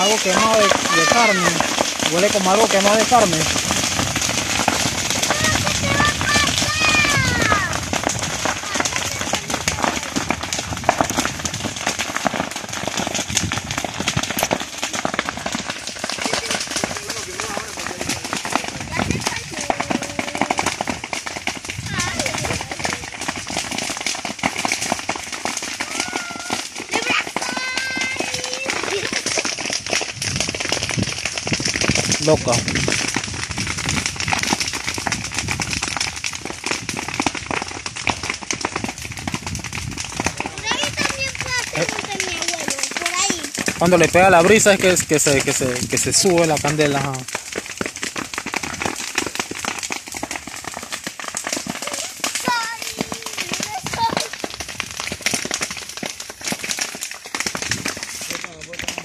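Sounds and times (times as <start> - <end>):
dry grass burning and crackling: 0.0 - 59.0
fire rushing hiss: 0.0 - 59.0.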